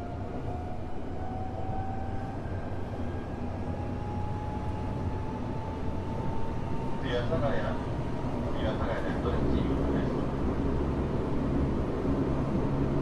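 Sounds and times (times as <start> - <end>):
wheel and rail rumble: 0.0 - 13.0.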